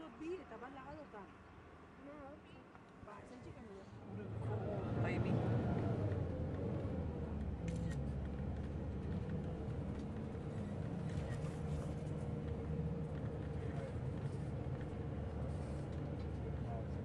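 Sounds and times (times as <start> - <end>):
bus engine hum and road rumble: 0.0 - 17.0.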